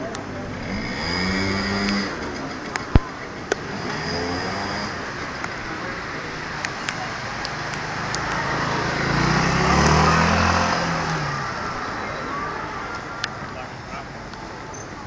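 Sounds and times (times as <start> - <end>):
steady background noise: 0.0 - 15.0
scooter engine passing: 0.2 - 15.0.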